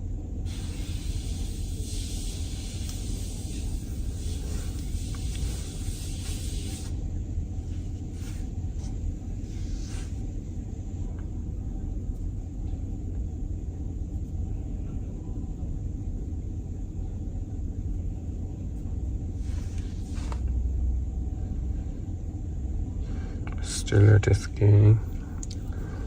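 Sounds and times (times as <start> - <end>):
low rumble: 0.0 - 23.5.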